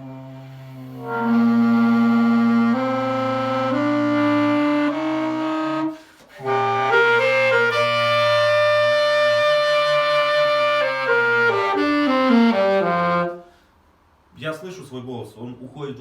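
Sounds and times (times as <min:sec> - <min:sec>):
saxophone played with a growl: 0:00.0 - 0:13.5.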